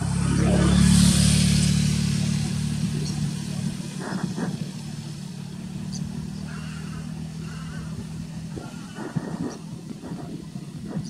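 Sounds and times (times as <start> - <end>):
motor engine humming: 0.0 - 11.0.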